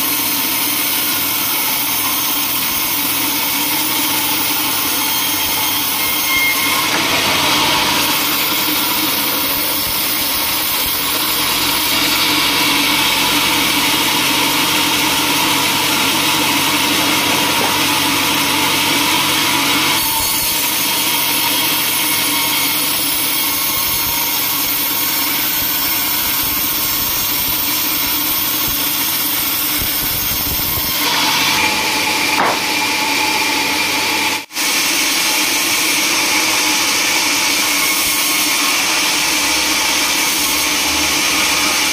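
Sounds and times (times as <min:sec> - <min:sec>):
band saw blade cutting log: 0:00.0 - 0:41.9.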